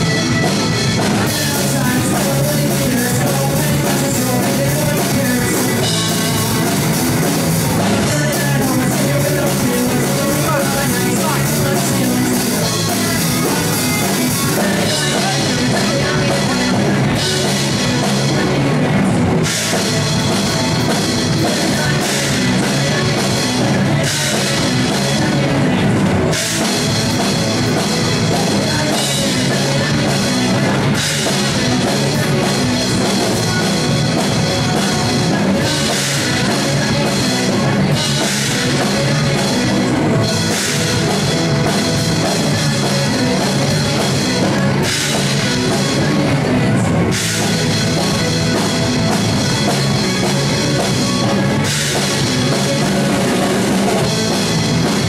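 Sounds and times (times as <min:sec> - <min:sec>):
drum kit: 0:00.0 - 0:55.0
electric guitar: 0:00.0 - 0:55.0
live rock band playing: 0:00.0 - 0:55.0.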